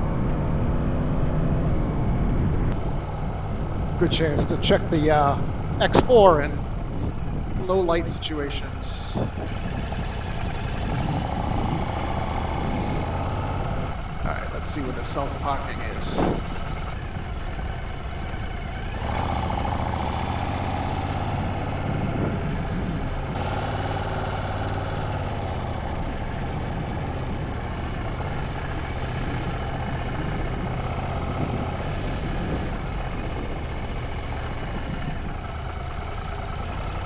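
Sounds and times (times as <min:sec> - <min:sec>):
motorcycle engine at low revs: 0:00.0 - 0:37.0.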